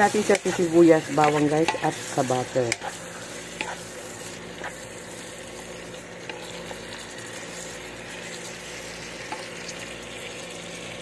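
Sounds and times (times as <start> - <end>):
wooden spatula turning food: 0.0 - 9.5
meat sizzling in a pan: 0.0 - 11.0.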